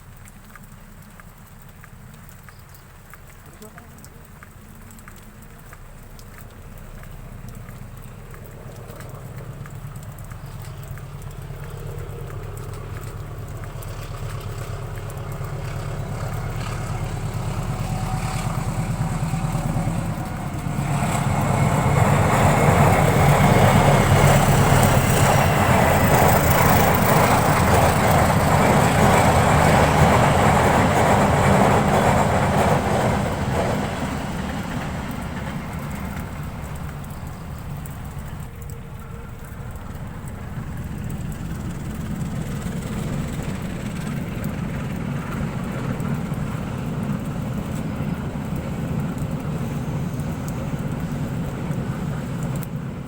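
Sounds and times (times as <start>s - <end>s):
train engine rumble: 0.0s - 53.0s
train wheels rushing by: 8.5s - 38.6s, 39.2s - 53.0s.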